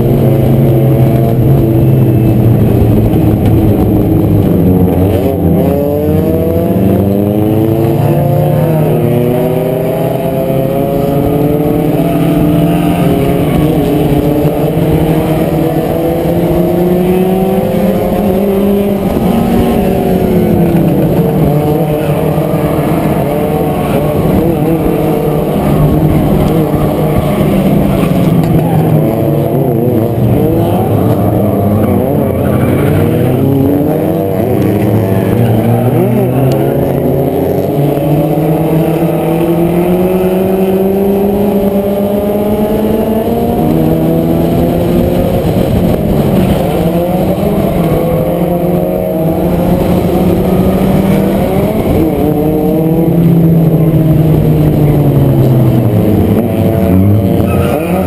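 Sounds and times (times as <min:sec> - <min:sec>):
race car engine revving: 0:00.0 - 0:58.0
surrounding race car engines: 0:00.0 - 0:58.0.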